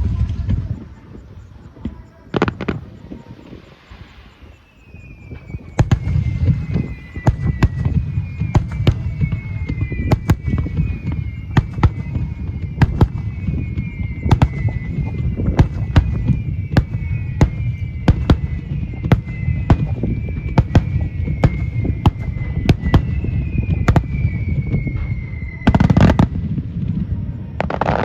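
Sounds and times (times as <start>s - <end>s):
fireworks bursting: 0.0s - 28.0s
fireworks whistling: 0.0s - 28.0s.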